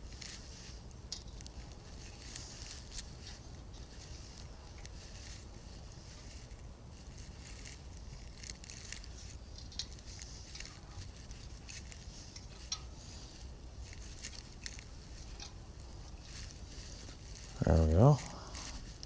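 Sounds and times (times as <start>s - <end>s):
metallic clicks and scrapes: 0.0s - 19.0s.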